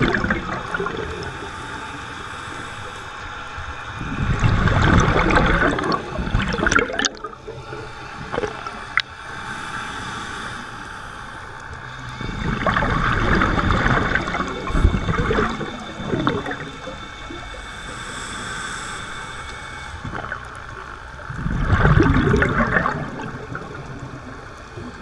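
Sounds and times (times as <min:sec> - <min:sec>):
scuba regulator exhaust bubbling: 0:00.0 - 0:03.1, 0:03.9 - 0:25.0.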